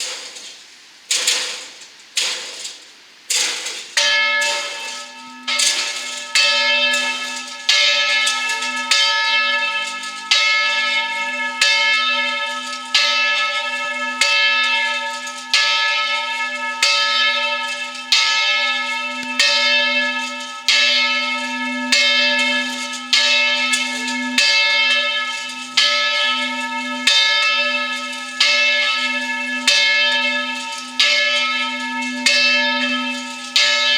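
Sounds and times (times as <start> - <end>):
church bells ringing: 4.0 - 33.9.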